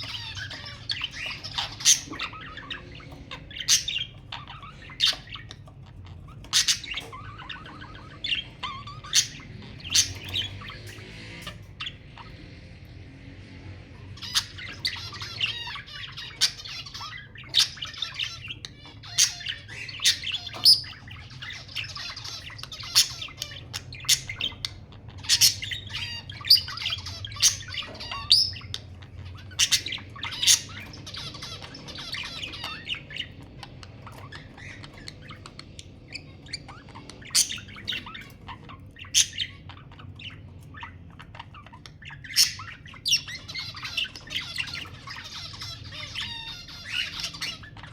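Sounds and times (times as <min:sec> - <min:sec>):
budgerigars chattering: 0:00.0 - 0:47.9
sharp chirps and squawks: 0:00.0 - 0:47.9.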